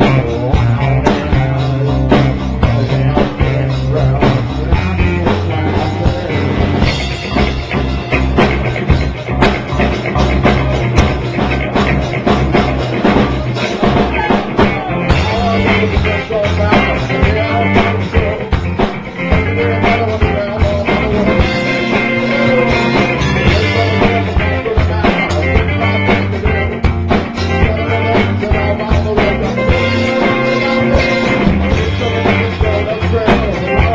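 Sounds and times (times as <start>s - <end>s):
drum kit beat: 0.0s - 33.9s
live rock band playing: 0.0s - 33.9s.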